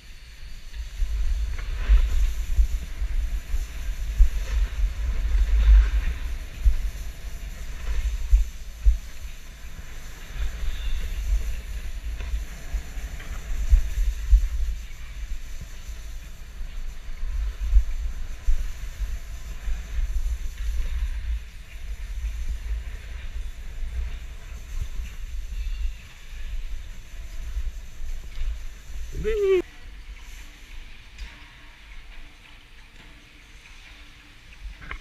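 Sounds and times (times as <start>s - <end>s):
snowboard sliding on snow: 0.0s - 31.9s
wind buffeting microphone: 0.0s - 32.9s.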